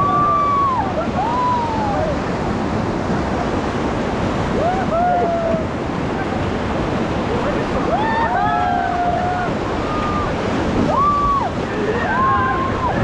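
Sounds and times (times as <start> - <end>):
river rapids rushing: 0.0 - 13.0
wind buffeting microphone: 0.0 - 13.0.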